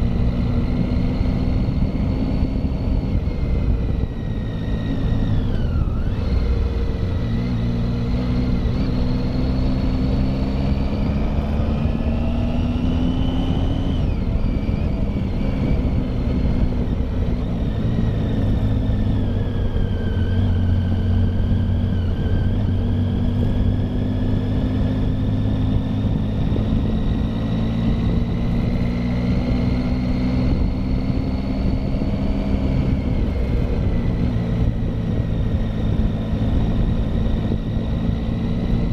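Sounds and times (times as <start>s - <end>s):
low wind rumble: 0.0s - 38.9s
motorcycle engine climbing: 0.0s - 38.9s.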